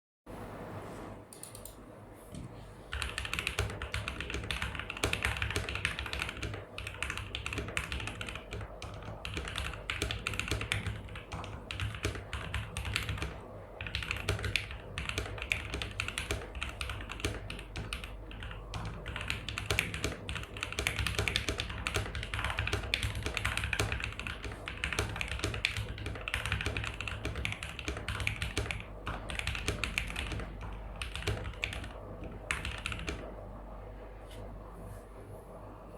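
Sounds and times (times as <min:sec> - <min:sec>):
fast typing on mechanical keyboard: 0:02.9 - 0:33.3.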